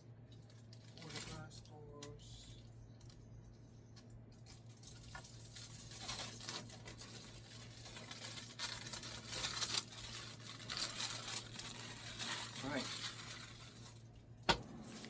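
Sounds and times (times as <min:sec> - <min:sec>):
plastic packaging crinkling: 0:00.2 - 0:03.6, 0:04.3 - 0:15.0.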